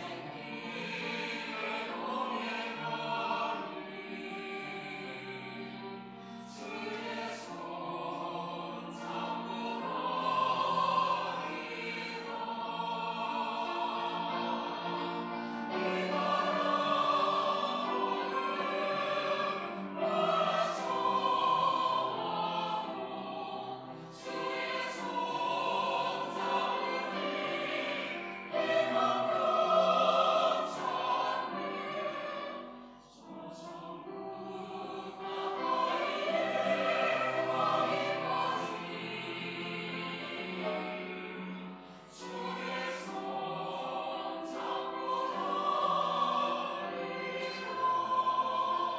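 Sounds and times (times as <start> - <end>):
mixed choir singing: 0.0 - 48.9.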